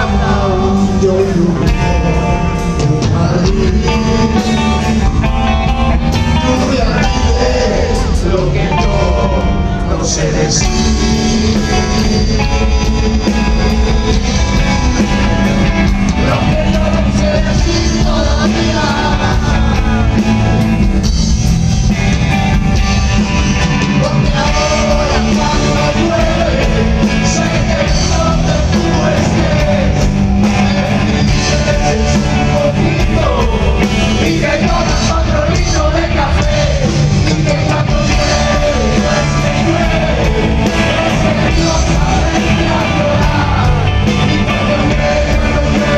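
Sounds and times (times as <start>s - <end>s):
person singing: 0.0s - 20.7s, 23.1s - 45.9s
live rock band playing: 0.0s - 45.9s.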